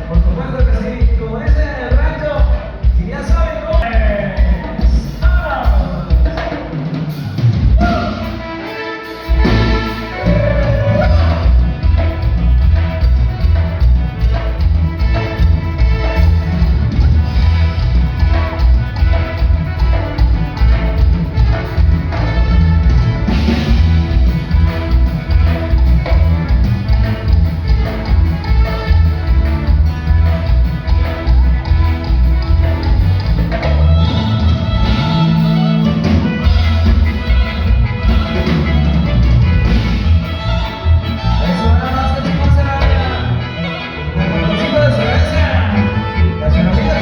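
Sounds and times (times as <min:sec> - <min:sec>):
drum kit beat: 0:00.0 - 0:43.2
band playing dance music: 0:00.0 - 0:47.0
bass: 0:00.0 - 0:47.0.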